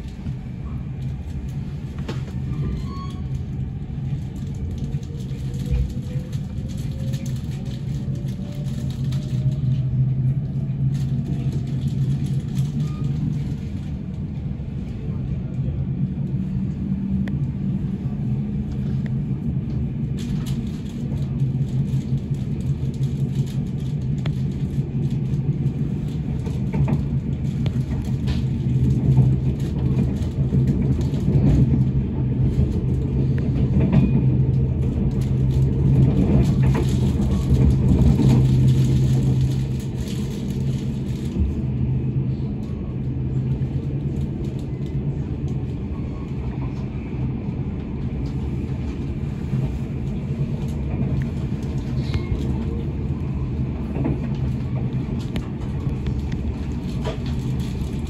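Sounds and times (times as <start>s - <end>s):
train rumbling inside carriage: 0.0s - 58.0s.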